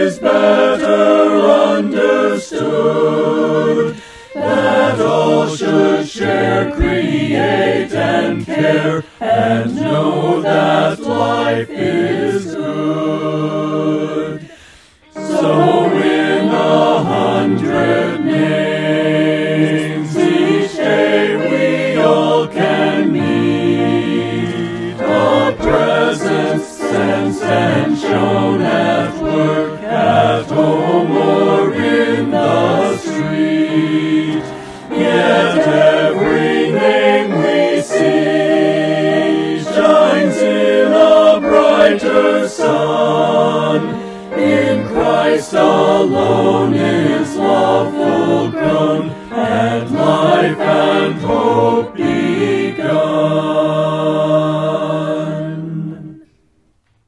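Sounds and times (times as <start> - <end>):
choir singing a hymn: 0.0 - 56.4.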